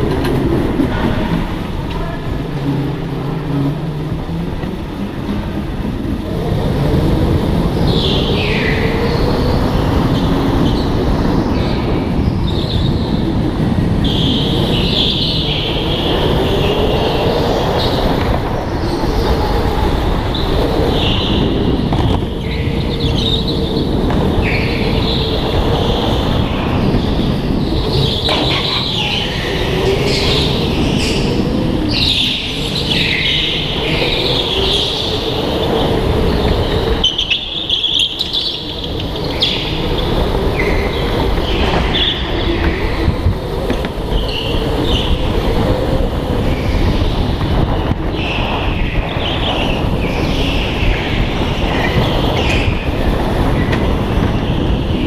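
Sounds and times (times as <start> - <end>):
go-kart motor rumble and whine: 0.0 - 55.0.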